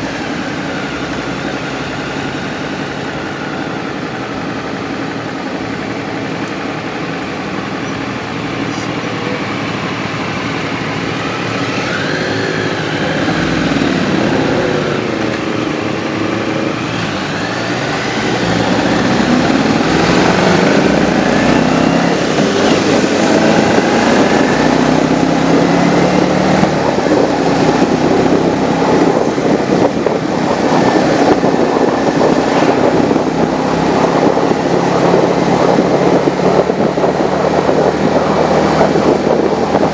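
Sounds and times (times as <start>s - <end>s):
motorcycle engine: 0.0s - 39.9s
road noise: 0.0s - 39.9s
wind noise: 0.0s - 39.9s.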